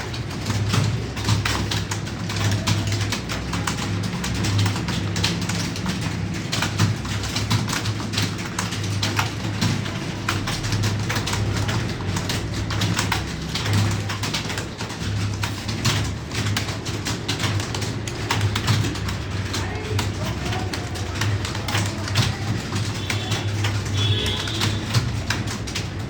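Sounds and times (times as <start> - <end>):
keyboard keys clicking: 0.0 - 26.0.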